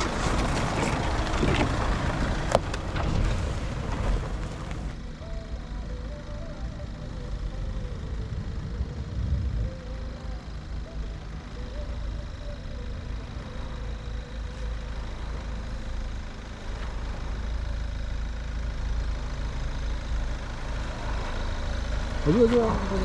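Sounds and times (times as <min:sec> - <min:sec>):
vehicle engine low rumble: 0:00.0 - 0:23.0.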